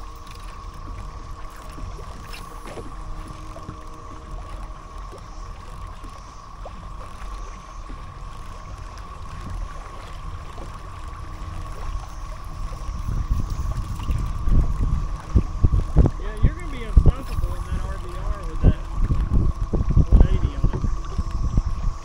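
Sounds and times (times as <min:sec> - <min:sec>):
cicada chorus drone: 0:00.0 - 0:22.0
water splashing along hull: 0:00.0 - 0:22.0
wind rumbling on microphone: 0:00.0 - 0:22.0.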